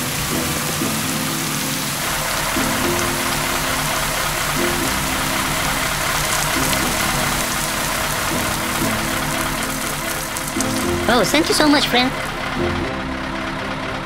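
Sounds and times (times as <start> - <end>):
water cannon spray hiss: 0.0 - 12.4
background music: 0.0 - 14.0.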